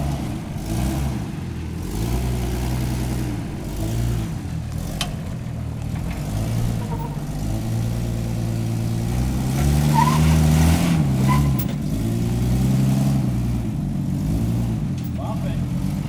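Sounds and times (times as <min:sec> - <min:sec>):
engine revving under load: 0:00.0 - 0:16.0.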